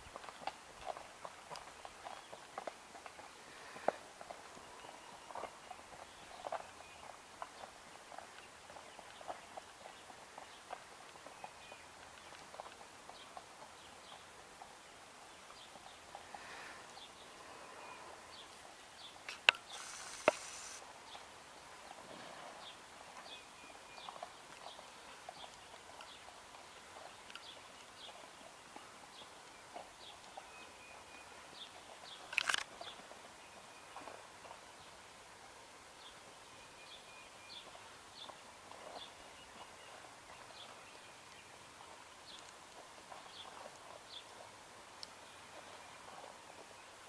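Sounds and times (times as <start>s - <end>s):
horse hooves footfalls: 0.0s - 17.5s, 18.3s - 35.0s, 37.5s - 47.0s.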